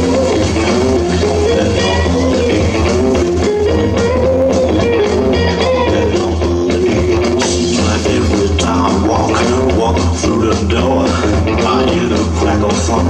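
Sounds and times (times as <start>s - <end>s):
instrumental rhythm and blues music: 0.0s - 13.0s.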